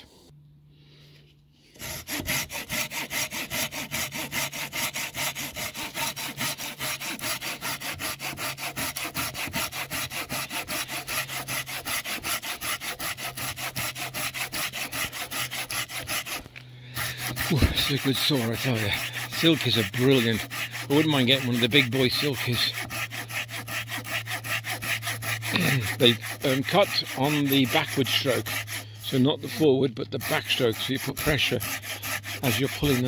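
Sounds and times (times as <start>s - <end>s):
hand saw cutting branch: 1.6s - 33.0s.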